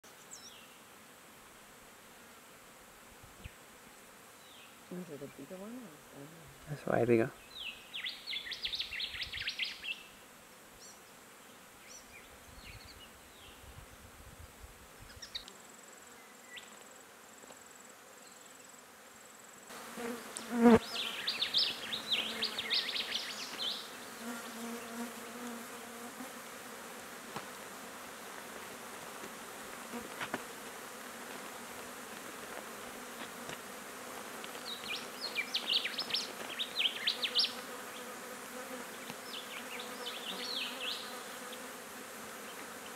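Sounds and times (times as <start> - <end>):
flies buzzing: 0.1 - 42.9.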